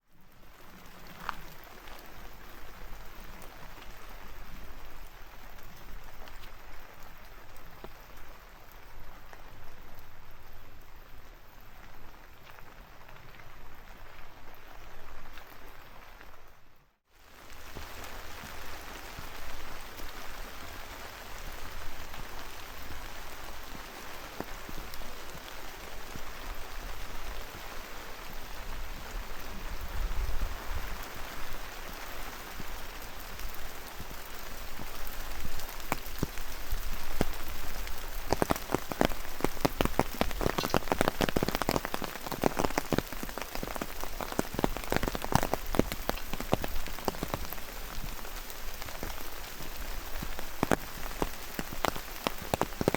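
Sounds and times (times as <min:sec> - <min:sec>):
steady rain: 0:00.0 - 0:52.9
close raindrop hits: 0:00.1 - 0:52.9.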